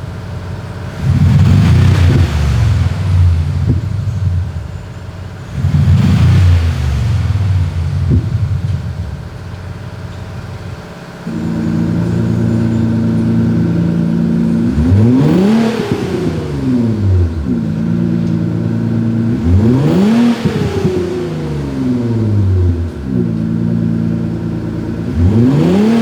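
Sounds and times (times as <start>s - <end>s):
simulated engine exhaust revving: 0.0s - 26.0s.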